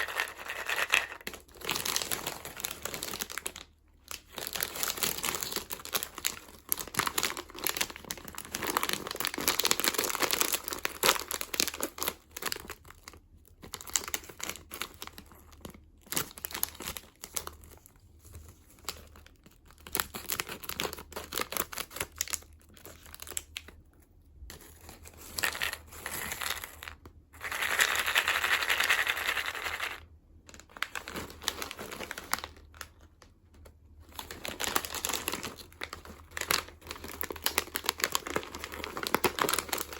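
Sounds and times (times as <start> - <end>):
plastic packaging crinkling: 0.0 - 23.8, 24.5 - 33.4, 34.0 - 39.9.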